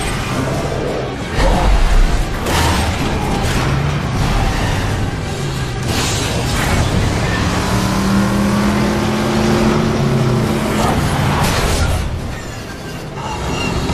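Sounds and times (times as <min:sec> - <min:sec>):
vehicle engines revving: 0:00.0 - 0:13.9.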